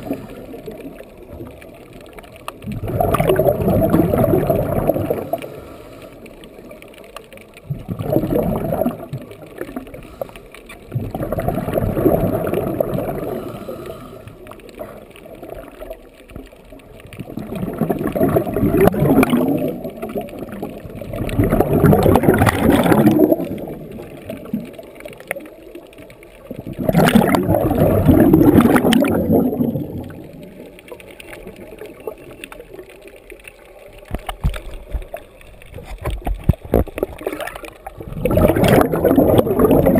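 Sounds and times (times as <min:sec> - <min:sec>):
regulator bubbles underwater: 0:00.0 - 0:39.9.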